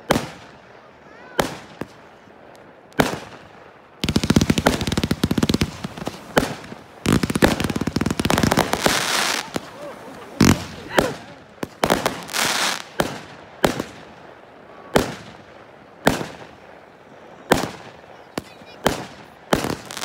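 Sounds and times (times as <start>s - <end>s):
firework crackling: 1.2s - 20.0s
firework bangs: 2.9s - 20.0s.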